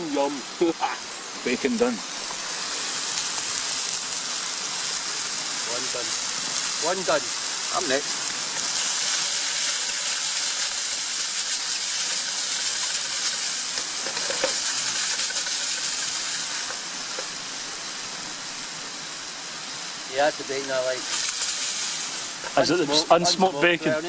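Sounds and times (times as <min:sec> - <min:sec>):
bacon sizzling: 0:00.0 - 0:24.0.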